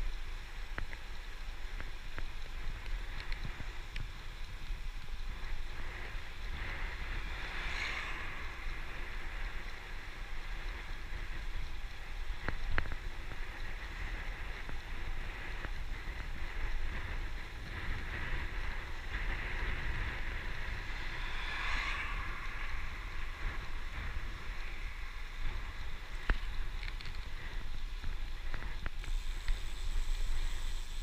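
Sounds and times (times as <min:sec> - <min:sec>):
bicycle tyres hissing on tarmac: 0:00.0 - 0:31.0
wind buffeting microphone: 0:01.6 - 0:31.0.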